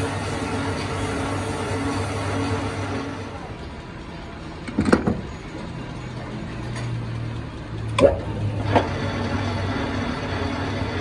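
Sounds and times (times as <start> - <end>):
workshop machine humming: 0.0 - 11.0.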